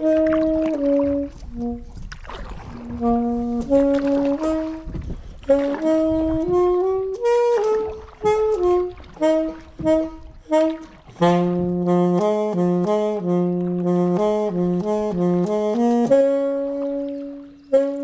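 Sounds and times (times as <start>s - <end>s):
background music melody: 2.7s - 18.0s.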